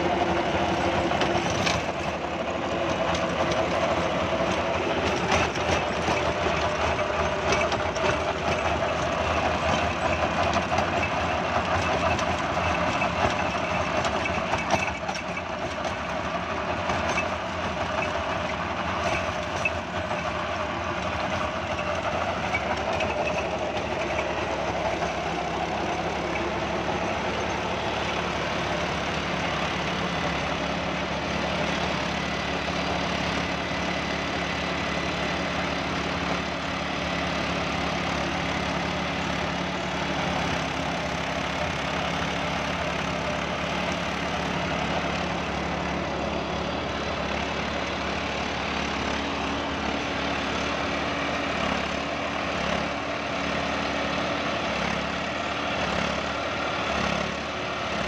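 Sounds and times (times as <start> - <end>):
tiller blades churning soil: 0.0 - 58.0
tractor diesel engine running: 0.0 - 58.0.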